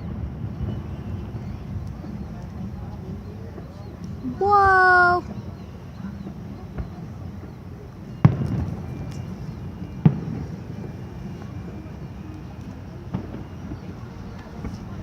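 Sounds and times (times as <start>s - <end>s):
fireworks bangs with rumbling echo: 0.0s - 15.0s.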